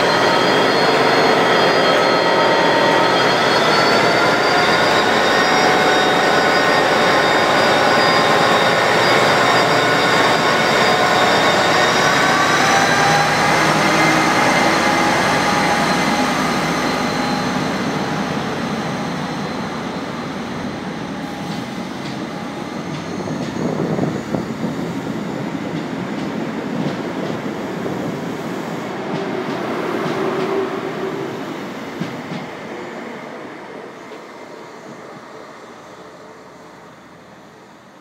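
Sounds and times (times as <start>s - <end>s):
diesel locomotive pulling away: 0.0s - 38.0s.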